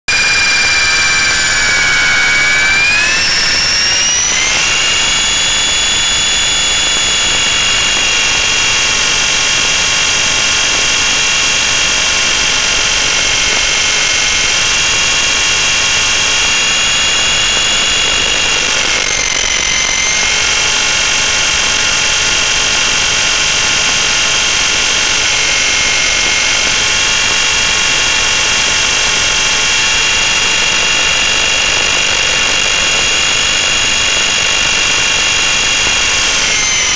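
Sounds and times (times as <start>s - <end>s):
helicopter motor and rotor whine: 0.1s - 36.9s.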